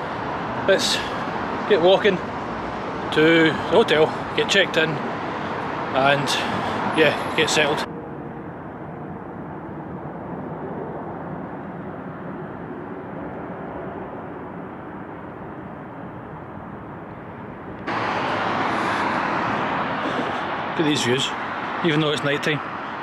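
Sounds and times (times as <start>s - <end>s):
city background rumble and hiss: 0.0s - 23.0s.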